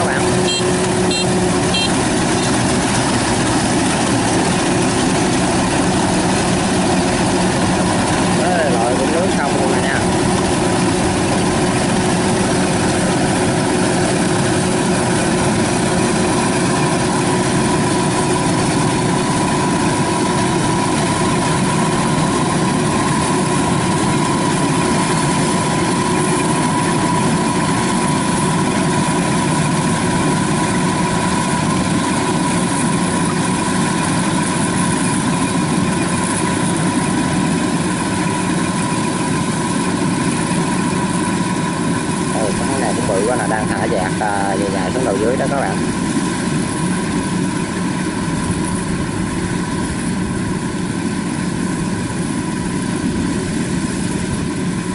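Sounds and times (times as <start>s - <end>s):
diesel engine drone: 0.0s - 54.9s
high machine whine: 0.0s - 54.9s.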